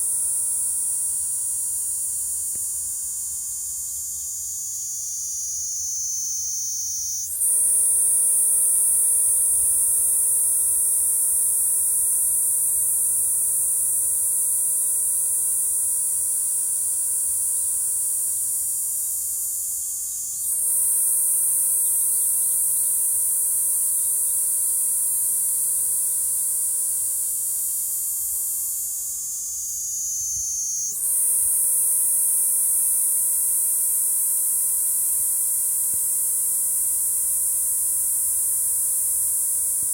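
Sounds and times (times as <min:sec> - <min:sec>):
cicada buzzing trill: 0:00.0 - 0:39.9.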